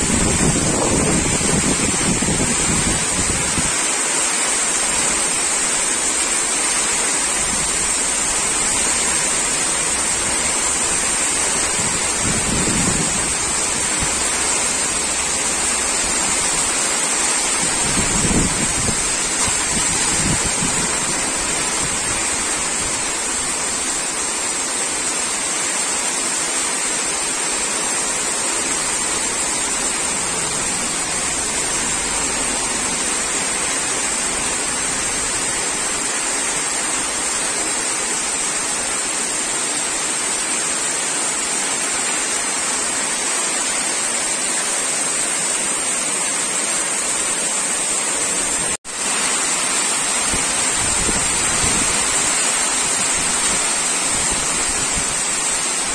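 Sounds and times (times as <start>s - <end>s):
heavy rain on wet ground: 0.0s - 55.9s.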